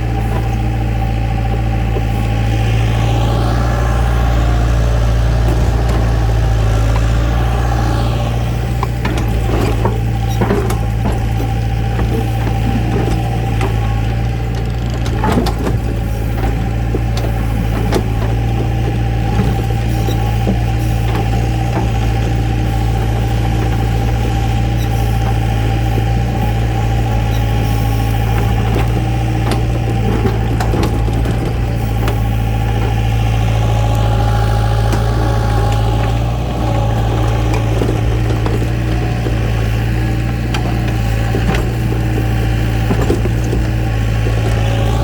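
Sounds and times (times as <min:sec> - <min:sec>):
heavy machine engine running: 0:00.0 - 0:45.0.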